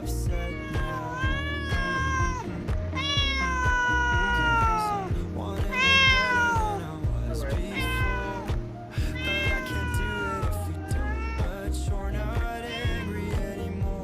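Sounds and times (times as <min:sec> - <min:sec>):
cat meowing: 0:00.0 - 0:13.7
background music with beat: 0:00.0 - 0:14.0.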